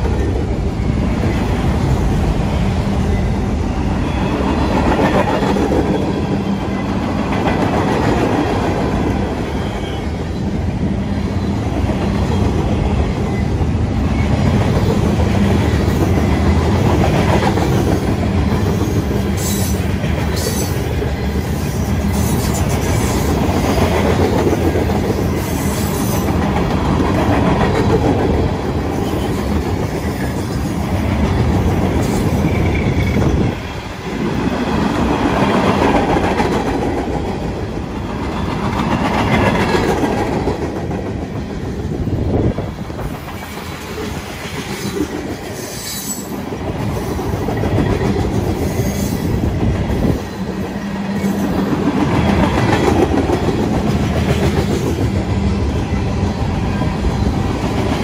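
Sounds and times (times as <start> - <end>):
freight cars rumbling on rails: 0.0 - 58.0
clickety-clack over rail joints: 4.3 - 10.0, 11.6 - 58.0.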